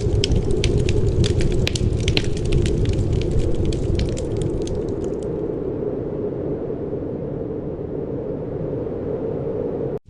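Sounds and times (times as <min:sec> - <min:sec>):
low wind rumble: 0:00.0 - 0:10.0.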